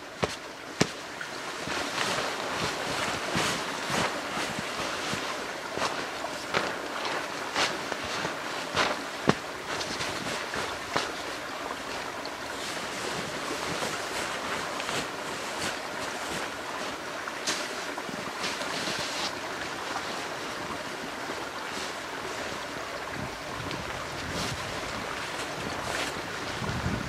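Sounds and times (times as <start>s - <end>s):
clothing and snow rustling: 0.0s - 23.2s, 24.2s - 27.0s
rushing wind: 0.0s - 27.0s.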